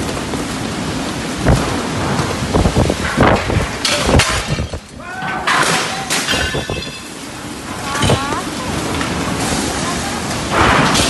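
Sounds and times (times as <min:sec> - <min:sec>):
debris banging and thudding: 0:00.0 - 0:11.0
heavy rain: 0:00.0 - 0:11.0
hissing wind gusts: 0:00.0 - 0:11.0
tornado winds: 0:00.0 - 0:11.0.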